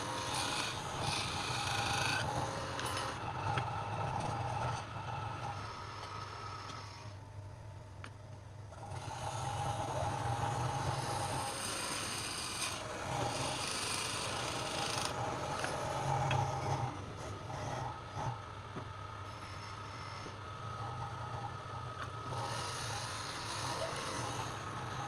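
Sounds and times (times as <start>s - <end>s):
tool scraping spinning wood: 0.0s - 7.2s, 8.8s - 18.4s, 19.3s - 25.0s
wood lathe motor hum: 0.0s - 7.2s, 8.7s - 18.5s, 19.2s - 25.0s.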